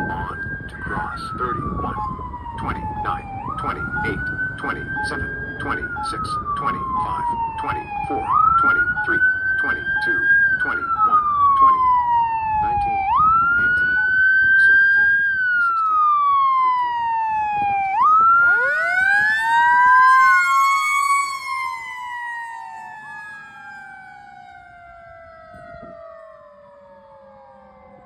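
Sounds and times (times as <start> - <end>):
siren wailing: 0.0 - 28.0
siren winding up and down: 0.0 - 28.0.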